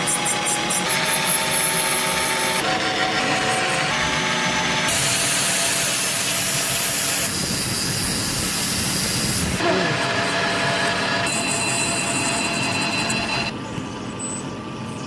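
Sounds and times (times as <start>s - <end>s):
power tool grinding: 0.0s - 13.5s.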